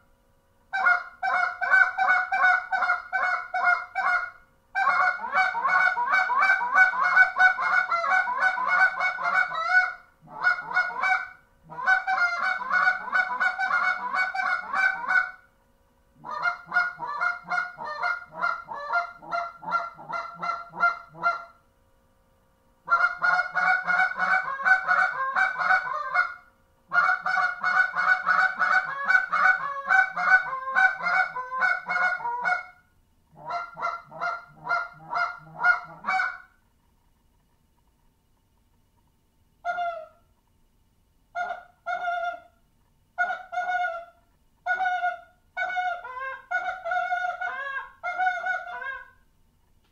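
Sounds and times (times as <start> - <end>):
goose call honking notes: 0.7 - 15.5, 16.2 - 21.6, 22.9 - 32.8, 33.4 - 36.6, 39.6 - 40.2, 41.4 - 42.6, 43.2 - 49.2.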